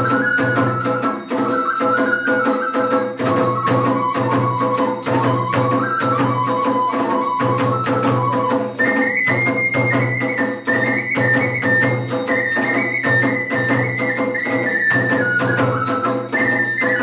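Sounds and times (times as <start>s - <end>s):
bamboo flute melody: 0.0s - 17.0s
drums: 0.0s - 17.0s
small hand cymbals: 0.0s - 17.0s.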